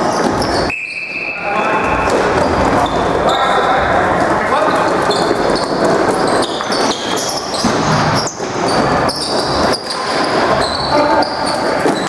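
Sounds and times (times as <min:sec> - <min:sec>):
shoe squeaks: 0:00.0 - 0:03.7, 0:04.6 - 0:12.0.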